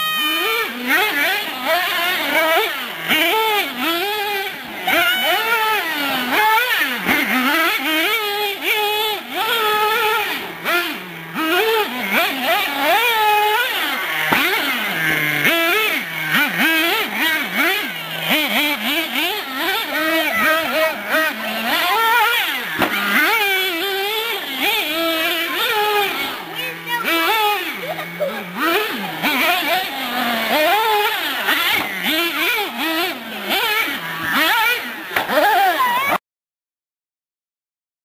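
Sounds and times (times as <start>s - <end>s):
rc truck engine revving: 0.0s - 36.2s.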